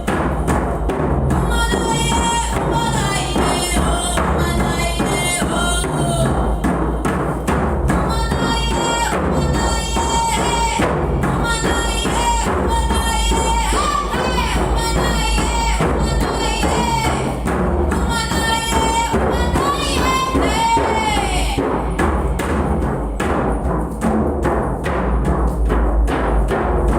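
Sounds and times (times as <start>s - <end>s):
steady drumming: 0.0s - 26.9s.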